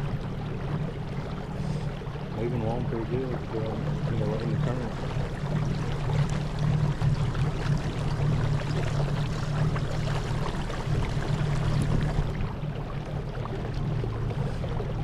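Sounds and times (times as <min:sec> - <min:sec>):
water washing along hull: 0:00.0 - 0:15.0.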